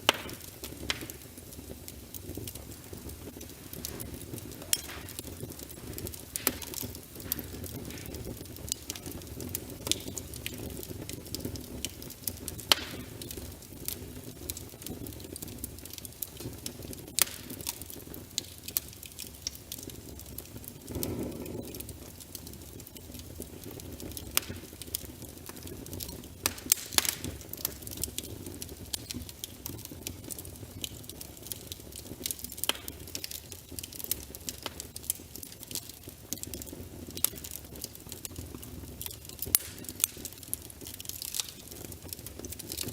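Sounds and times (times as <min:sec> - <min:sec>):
fire crackling and popping: 0:00.0 - 0:42.9
low rumble of flame: 0:00.0 - 0:42.9.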